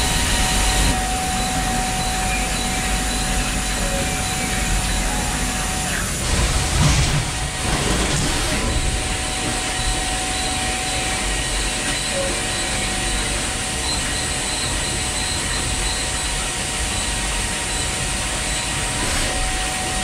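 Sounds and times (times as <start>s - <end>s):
machining center mechanical din: 0.0s - 20.0s.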